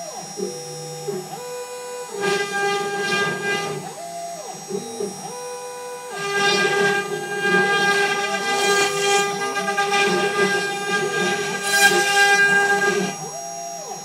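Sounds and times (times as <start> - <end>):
motor tones gliding: 0.0 - 14.0
router spindle whine: 0.0 - 14.0
router bit rasping wood: 1.0 - 13.4.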